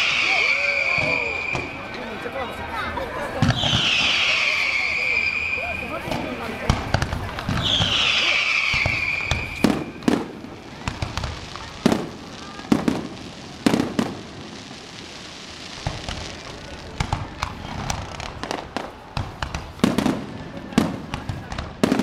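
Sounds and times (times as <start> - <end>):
firework booms: 0.0 - 2.0, 3.3 - 22.0
firework pops and crackling: 0.0 - 2.1, 3.4 - 22.0.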